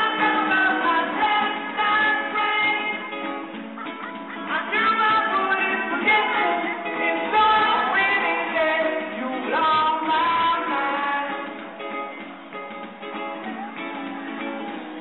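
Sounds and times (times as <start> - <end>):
person singing: 0.0 - 12.3
live pop-rock band: 0.0 - 15.0.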